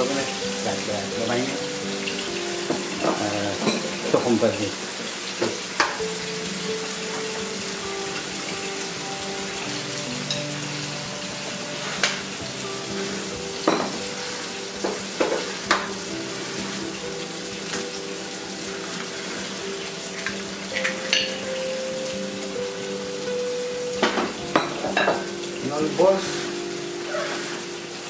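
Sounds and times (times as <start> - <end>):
eggs frying in oil: 0.0 - 28.0.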